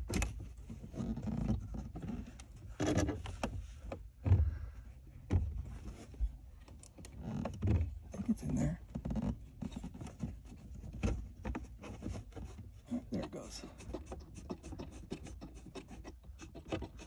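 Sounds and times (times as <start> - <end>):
hard plastic knocks and scrapes: 0.0 - 17.0.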